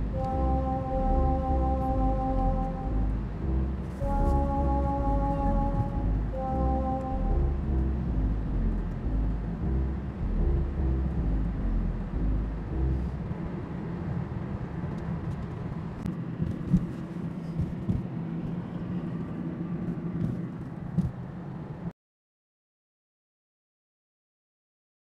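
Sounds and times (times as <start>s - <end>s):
road and engine noise in car: 0.0s - 21.9s.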